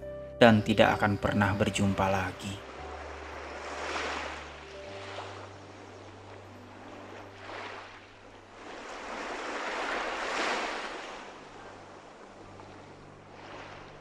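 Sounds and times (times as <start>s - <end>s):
ocean surf washing in: 2.1s - 14.0s.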